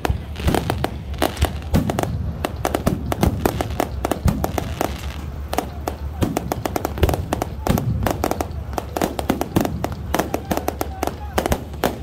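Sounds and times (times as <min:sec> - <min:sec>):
fireworks bangs and cracks: 0:00.0 - 0:12.0
steady low rumble: 0:00.0 - 0:12.0.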